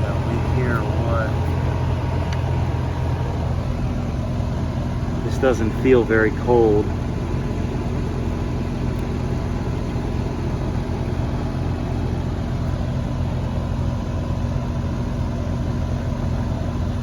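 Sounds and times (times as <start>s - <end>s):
compressor low hum: 0.0s - 17.0s
condenser fan rushing: 0.0s - 17.0s.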